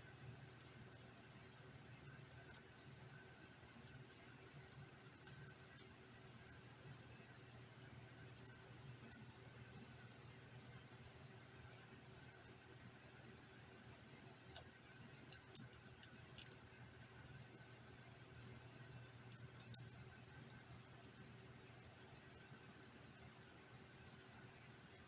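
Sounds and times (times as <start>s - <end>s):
low steady hum: 0.0s - 25.0s
small clicks and ticks: 0.1s - 22.6s.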